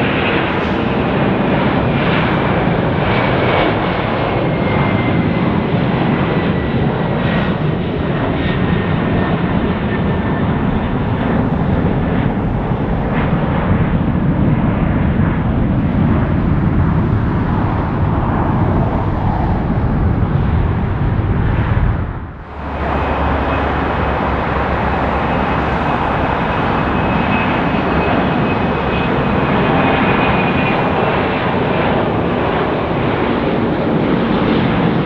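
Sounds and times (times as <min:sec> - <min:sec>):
faint jet engine whine: 0:00.0 - 0:35.0
jet engines roaring: 0:00.0 - 0:35.0.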